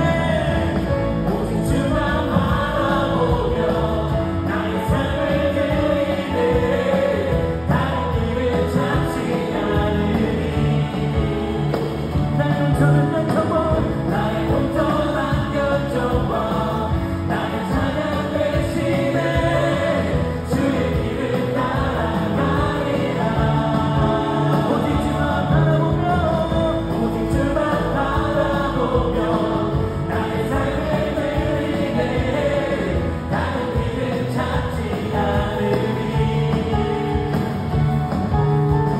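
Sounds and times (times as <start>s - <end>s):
bass guitar: 0.0s - 38.9s
drums: 0.0s - 38.9s
electric guitar: 0.0s - 38.9s
keyboard: 0.0s - 38.9s
people singing: 0.0s - 38.9s.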